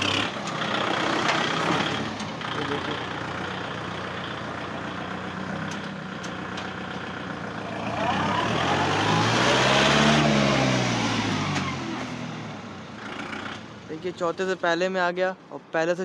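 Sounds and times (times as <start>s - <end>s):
tractor diesel engine: 0.0s - 16.0s.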